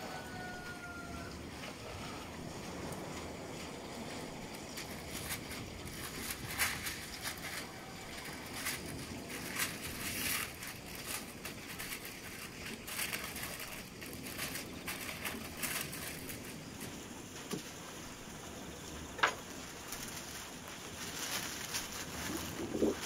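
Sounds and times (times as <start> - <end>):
steady background noise: 0.0 - 23.0
paper rustling and crinkling: 3.1 - 23.0.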